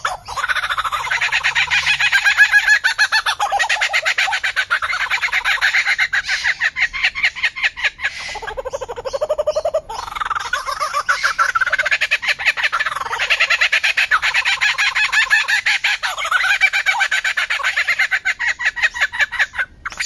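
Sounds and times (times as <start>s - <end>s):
lyrebird singing: 0.0s - 20.0s.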